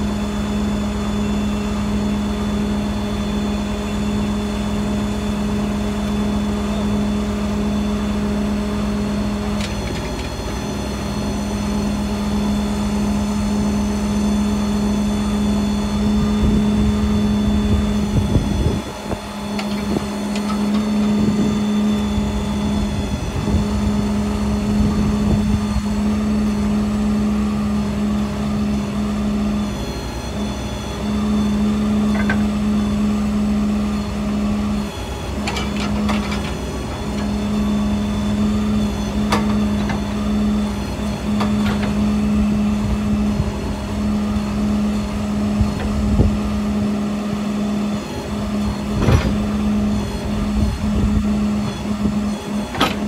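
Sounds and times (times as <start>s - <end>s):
motor running steadily: 0.0s - 53.0s.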